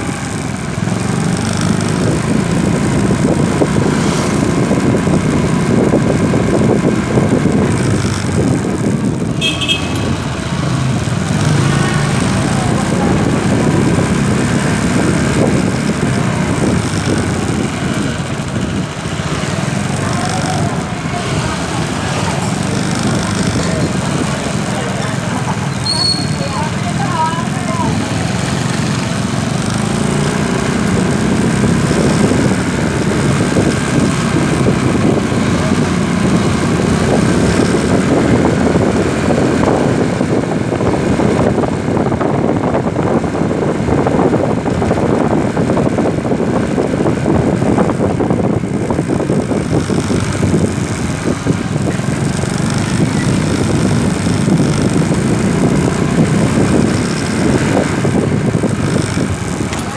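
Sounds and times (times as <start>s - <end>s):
road noise: 0.0s - 59.9s
small motorcycle engine running: 0.0s - 59.9s.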